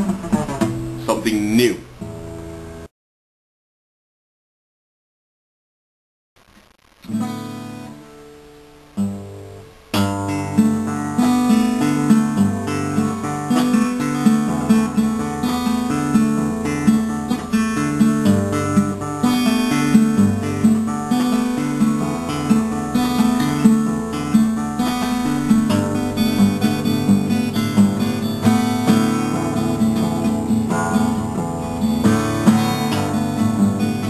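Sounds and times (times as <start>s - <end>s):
acoustic guitar playing: 0.0s - 2.9s, 7.0s - 34.0s.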